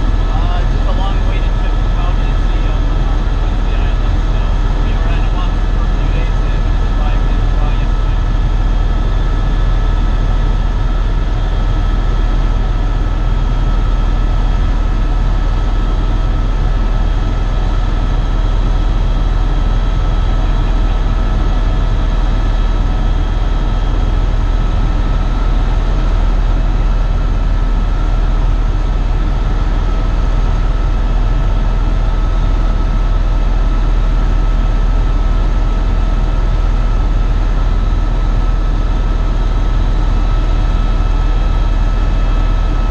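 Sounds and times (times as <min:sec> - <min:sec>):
helicopter rotor and engine rumble: 0:00.0 - 0:42.9
turbine whine: 0:00.0 - 0:42.9.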